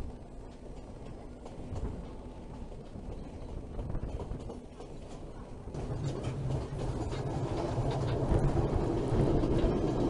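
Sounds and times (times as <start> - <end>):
train wheels on rails: 0.0 - 10.0.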